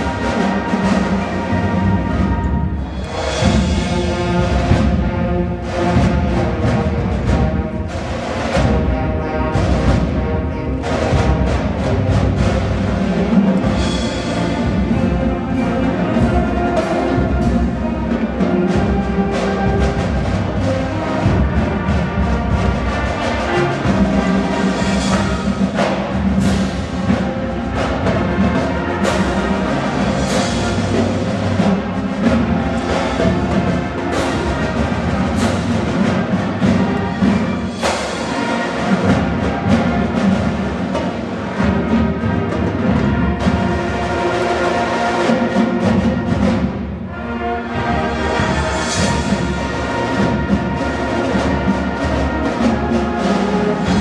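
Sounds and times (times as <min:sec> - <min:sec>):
sharp percussion strikes: 0:00.0 - 0:47.2
marching band brass: 0:00.0 - 0:54.0.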